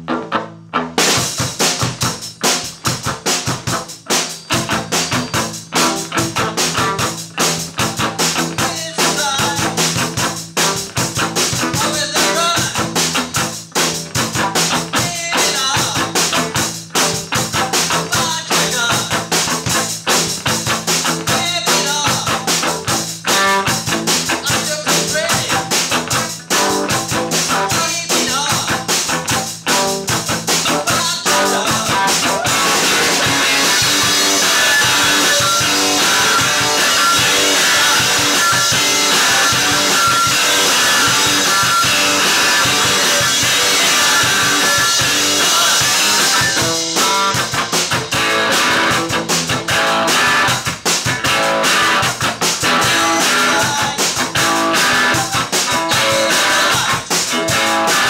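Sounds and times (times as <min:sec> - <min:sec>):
drum kit beat: 0:00.0 - 0:58.0
electric guitar: 0:00.0 - 0:58.0
rock band playing live: 0:00.0 - 0:58.0.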